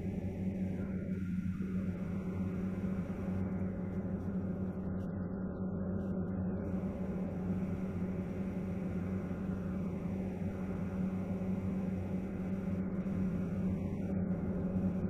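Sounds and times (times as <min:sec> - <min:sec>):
aircraft engine and airflow drone: 0:00.0 - 0:15.0.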